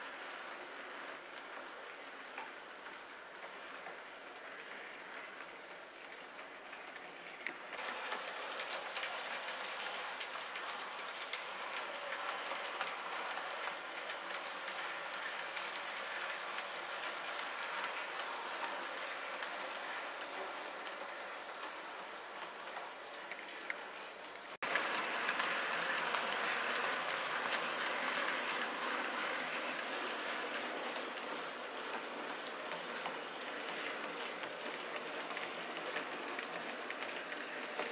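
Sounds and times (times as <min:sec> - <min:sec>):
model train wheels rattling on track: 0:00.0 - 0:37.9.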